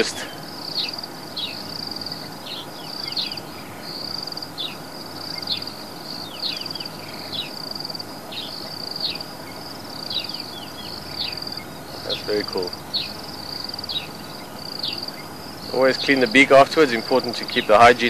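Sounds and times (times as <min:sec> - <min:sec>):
insects chirping in trills: 0:00.0 - 0:18.0.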